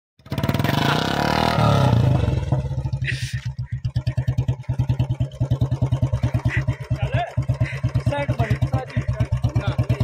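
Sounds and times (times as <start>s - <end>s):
motorcycle engine revving: 0.2s - 10.0s.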